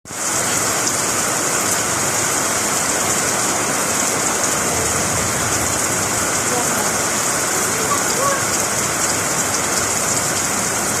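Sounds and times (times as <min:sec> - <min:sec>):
heavy rain: 0:00.1 - 0:11.0.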